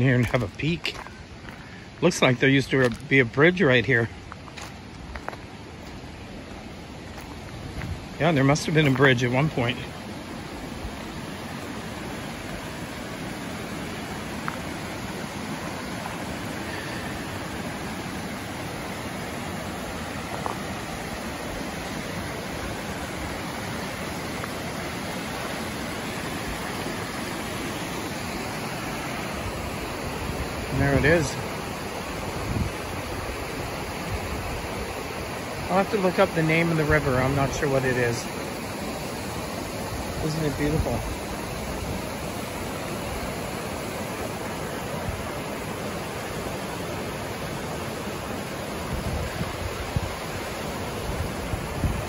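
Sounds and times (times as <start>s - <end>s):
river rushing over stones: 0.0s - 52.0s.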